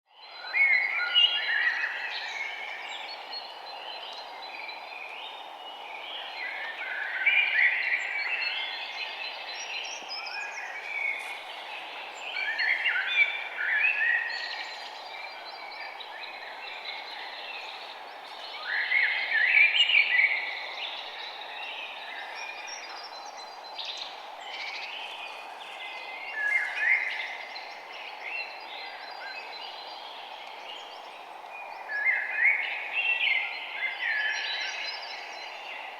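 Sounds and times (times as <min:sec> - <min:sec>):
steady background hiss: 0:00.4 - 0:35.9.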